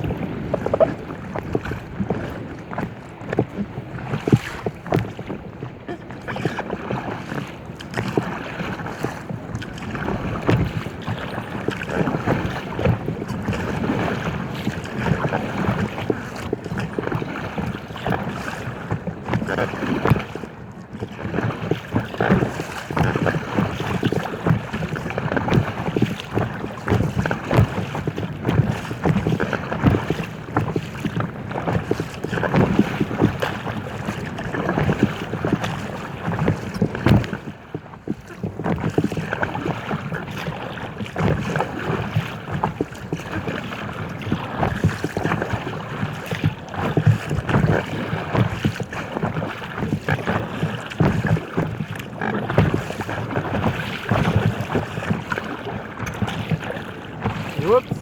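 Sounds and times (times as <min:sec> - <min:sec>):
water splashing against hull: 0:00.0 - 0:58.0
wind buffeting microphone: 0:00.0 - 0:58.0.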